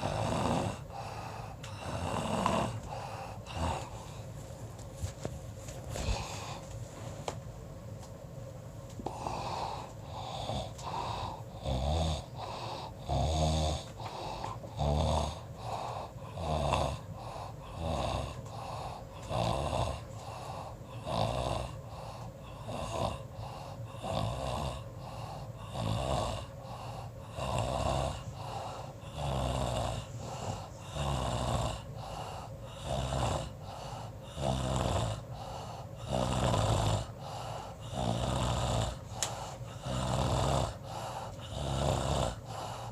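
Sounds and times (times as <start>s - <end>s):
person snoring: 0.0s - 4.3s, 5.9s - 6.8s, 9.0s - 42.9s.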